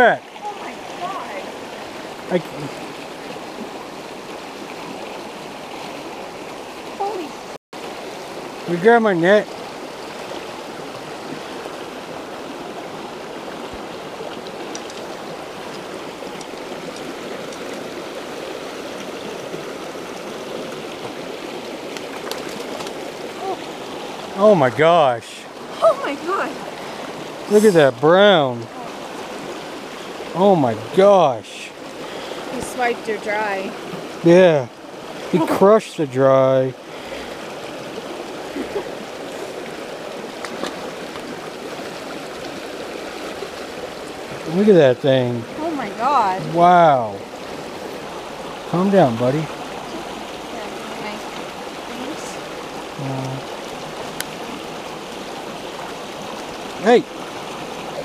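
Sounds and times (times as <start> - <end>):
creek water rushing over stones: 0.0 - 58.0.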